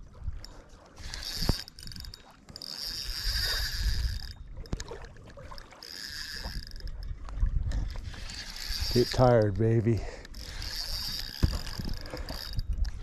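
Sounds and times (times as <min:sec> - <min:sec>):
fishing reel gears whirring: 0:00.1 - 0:04.9, 0:05.5 - 0:13.0.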